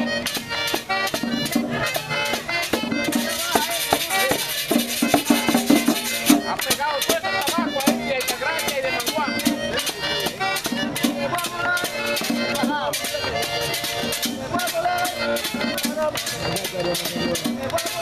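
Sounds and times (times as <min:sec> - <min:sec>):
button accordion: 0:00.0 - 0:18.0
hand drum beaten: 0:00.0 - 0:18.0
metal scraper rhythmic scraping: 0:00.2 - 0:18.0.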